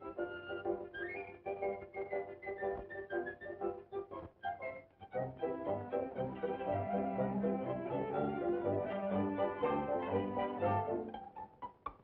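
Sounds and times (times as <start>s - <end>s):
strings playing bouncy tune: 0.0s - 11.7s.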